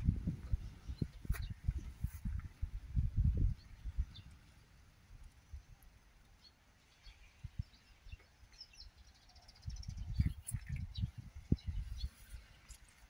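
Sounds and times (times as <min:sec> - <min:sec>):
songbird chirps: 0:00.0 - 0:13.0.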